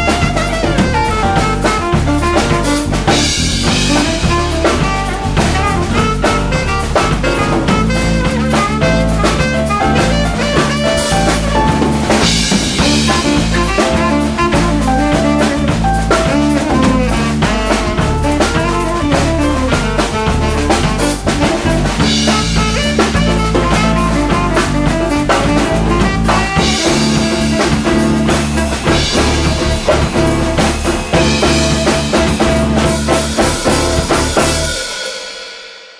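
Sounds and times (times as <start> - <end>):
jazz swing band playing: 0.0 - 35.4
drum kit: 0.0 - 35.9.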